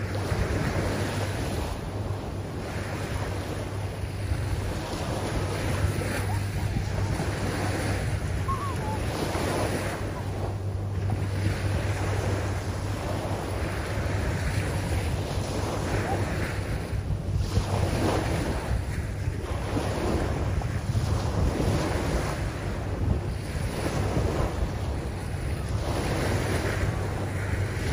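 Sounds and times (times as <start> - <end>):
waves breaking on a shelly beach: 0.0 - 27.9
wind rumble on microphone: 0.0 - 27.9.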